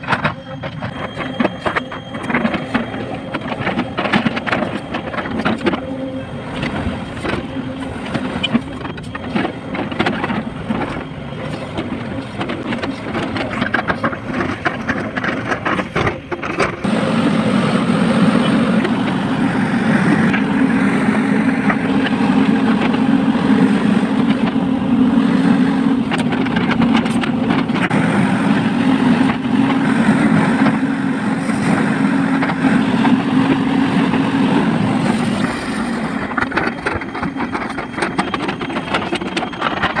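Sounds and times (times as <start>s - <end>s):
excavator diesel engine under load: 0.0s - 40.0s.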